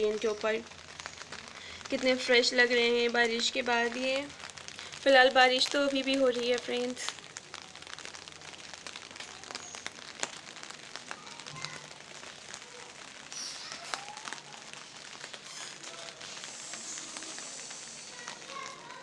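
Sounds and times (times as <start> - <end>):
drips ticking: 0.0 - 19.0
rain hiss: 0.0 - 19.0.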